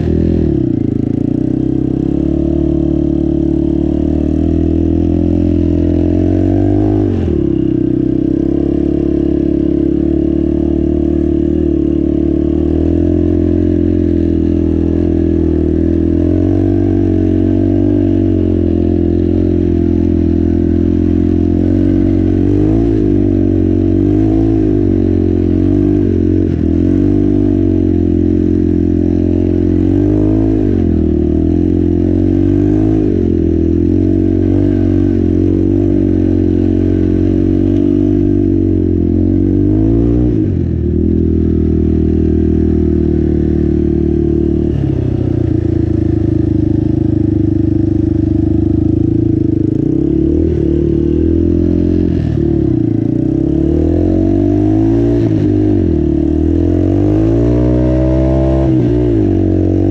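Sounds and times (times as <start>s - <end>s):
atv engine running under load: 0.0s - 59.9s.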